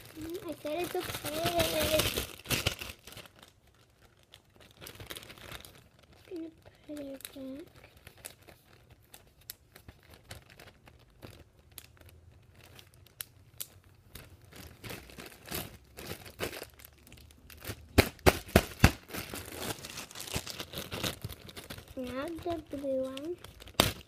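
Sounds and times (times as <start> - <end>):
sticky slime crackles: 0.0 - 24.0.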